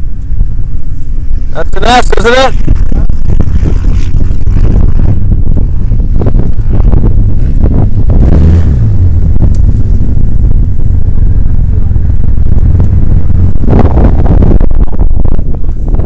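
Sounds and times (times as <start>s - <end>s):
off-road vehicle engines rumbling: 0.0s - 16.0s.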